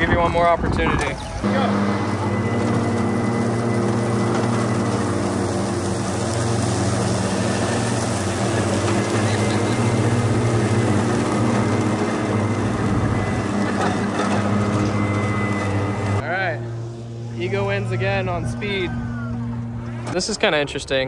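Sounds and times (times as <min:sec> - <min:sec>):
electric mowers running: 0:00.0 - 0:21.0.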